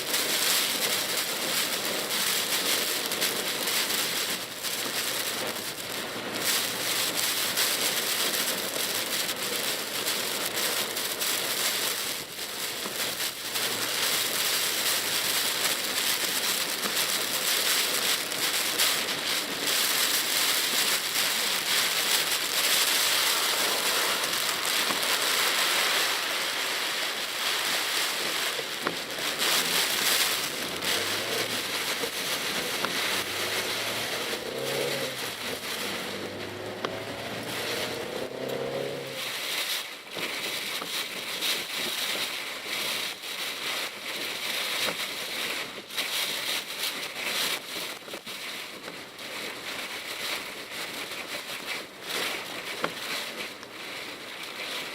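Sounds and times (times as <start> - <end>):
heavy rain hitting a car: 0.0 - 54.9
tyres hissing on wet road: 0.0 - 54.9.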